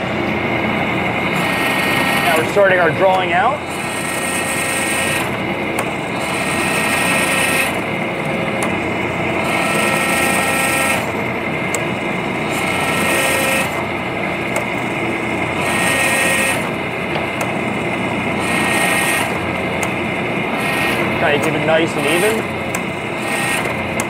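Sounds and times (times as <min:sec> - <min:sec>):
hydraulic forging press drone: 0:00.0 - 0:24.0.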